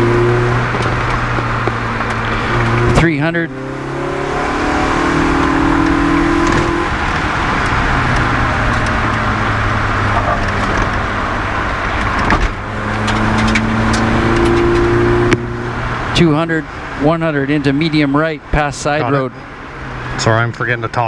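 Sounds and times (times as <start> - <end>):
car engine pulling hard: 0.0 - 21.0
road and wind noise: 0.0 - 21.0.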